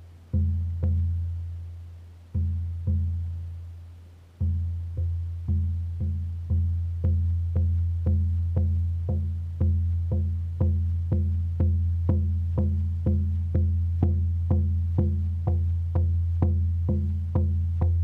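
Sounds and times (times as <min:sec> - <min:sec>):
frame drum beats: 0:00.0 - 0:01.6, 0:02.3 - 0:03.6, 0:04.4 - 0:18.0.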